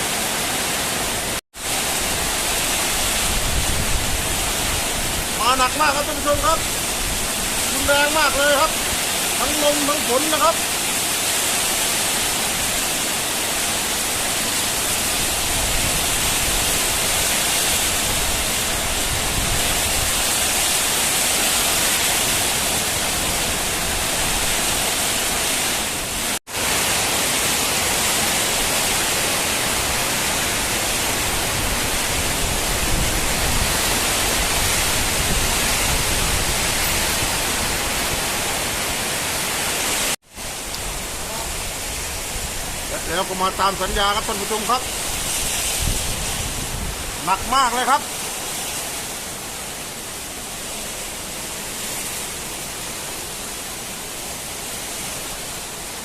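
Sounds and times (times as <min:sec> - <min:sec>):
heavy rain in strong wind: 0:00.0 - 0:56.0.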